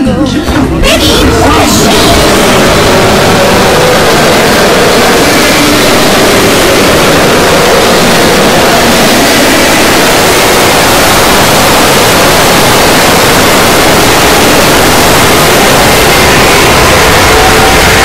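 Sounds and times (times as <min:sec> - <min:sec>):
loud wash of overlapping audio: 0:00.7 - 0:18.0.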